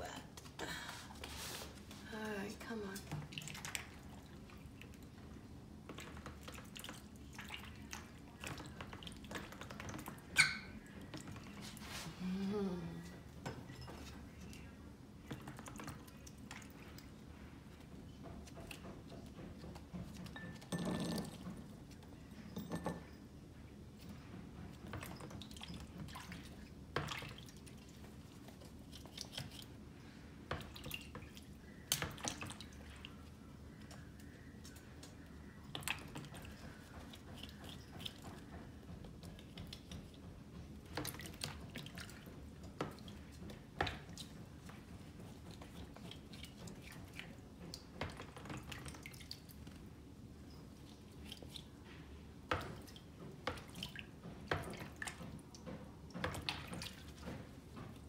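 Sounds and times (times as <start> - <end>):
small water splashes and drips: 2.5 - 11.9, 13.0 - 21.0, 24.7 - 58.0.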